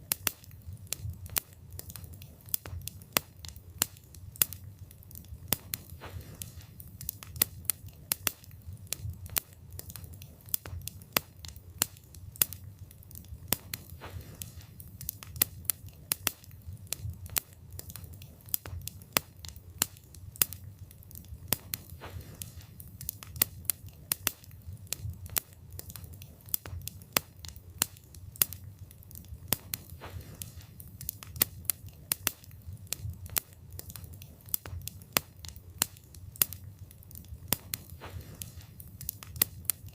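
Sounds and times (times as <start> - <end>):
burning wood crackling and popping: 0.0 - 39.9
fire flames rumbling: 0.0 - 39.9.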